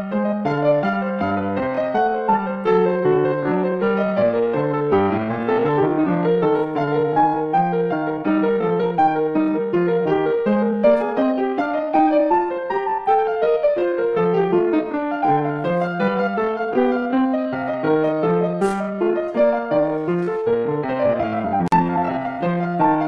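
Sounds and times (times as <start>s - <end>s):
flowing piano music: 0.0s - 23.0s.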